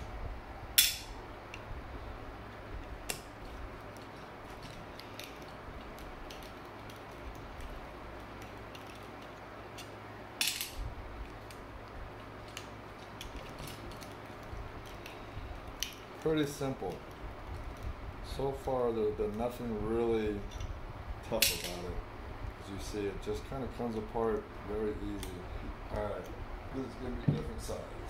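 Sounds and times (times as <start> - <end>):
faint steady low hum: 0.0 - 28.0.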